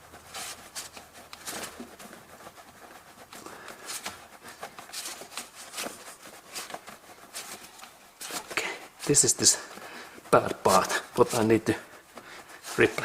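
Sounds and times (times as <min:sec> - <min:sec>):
faint handling clicks and rustles: 0:00.0 - 0:13.0.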